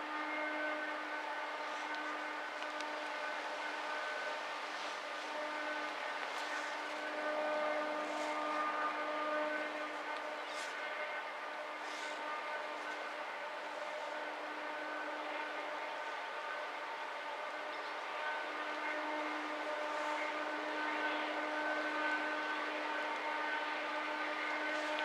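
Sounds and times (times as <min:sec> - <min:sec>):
diesel locomotives droning: 0:00.0 - 0:25.0.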